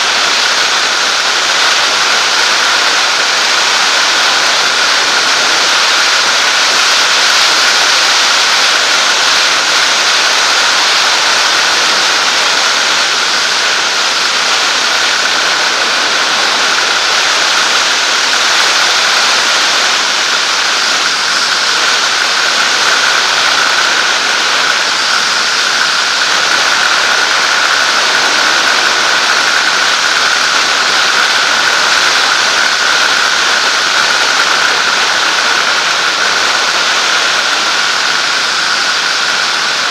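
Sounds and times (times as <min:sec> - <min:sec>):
rush of airflow: 0:00.0 - 0:39.9
steady high hum: 0:00.0 - 0:39.9.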